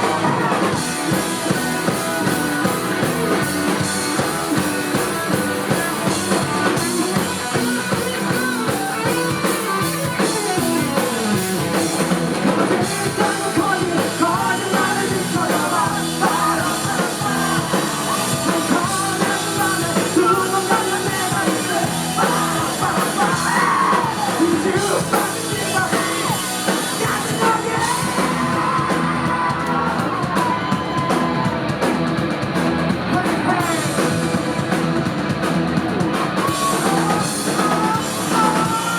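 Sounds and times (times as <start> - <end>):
person singing lead vocal: 0.0 - 11.8, 12.4 - 31.9, 33.0 - 34.7, 36.0 - 38.9
drums: 0.0 - 38.9
electric guitar: 0.0 - 38.9.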